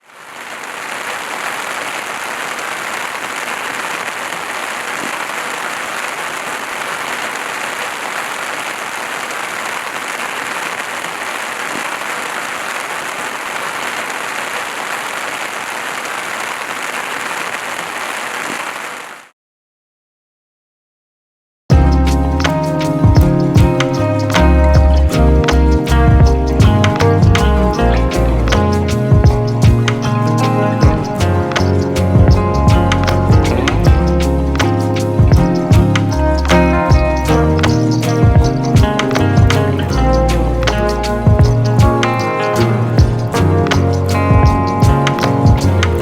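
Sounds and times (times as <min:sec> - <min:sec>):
steady rainfall: 0:00.0 - 0:19.3, 0:21.7 - 0:46.0.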